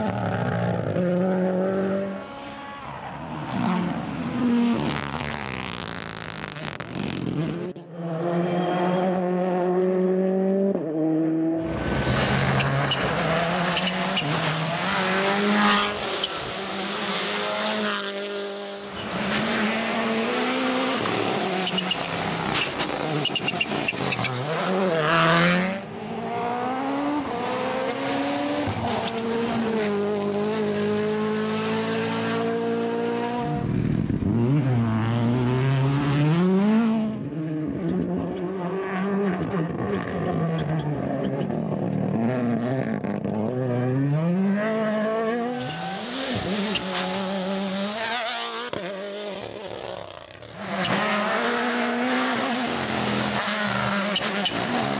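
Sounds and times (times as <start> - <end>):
rally car engines revving: 0.0 - 54.9.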